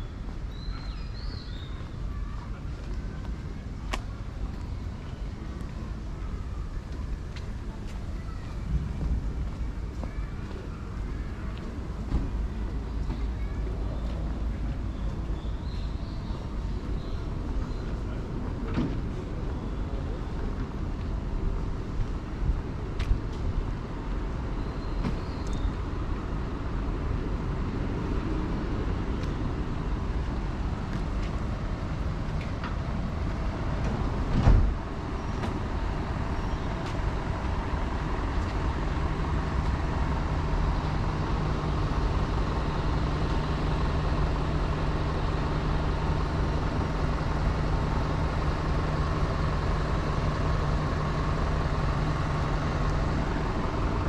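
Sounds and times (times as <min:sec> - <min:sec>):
street traffic noise: 0:00.0 - 0:54.0
vehicle engine humming: 0:00.0 - 0:54.0.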